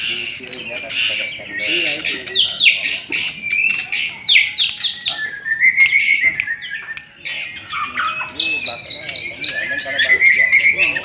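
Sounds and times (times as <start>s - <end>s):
songbird singing high notes: 0.0s - 11.0s.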